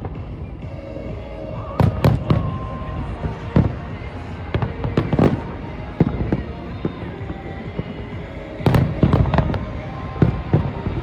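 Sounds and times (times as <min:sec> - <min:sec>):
firework bangs echoing: 0:01.8 - 0:11.0.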